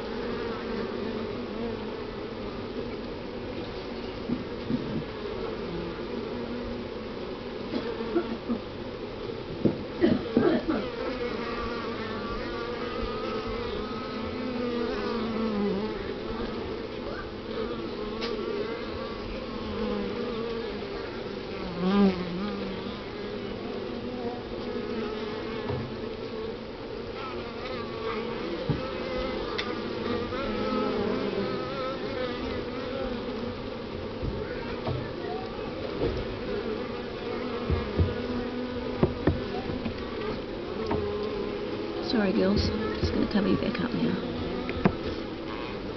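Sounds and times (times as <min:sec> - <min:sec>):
single bees buzzing: 0:00.0 - 0:02.7, 0:03.3 - 0:45.9
bee colony humming: 0:00.0 - 0:45.9.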